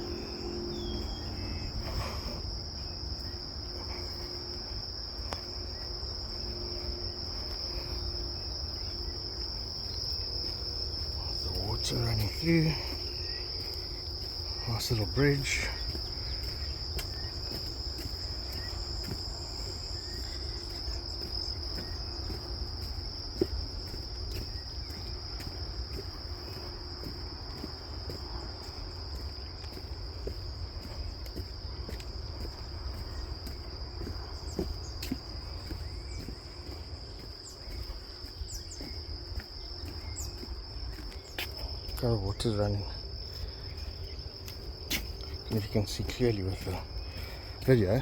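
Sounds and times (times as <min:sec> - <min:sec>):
insects buzzing trill: 0:00.0 - 0:48.0.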